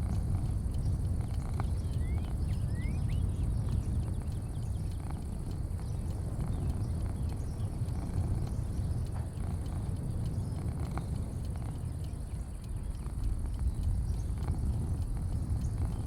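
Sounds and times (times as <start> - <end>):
faint ticks and chirps: 0.0 - 16.0
steady low rumble: 0.0 - 16.0.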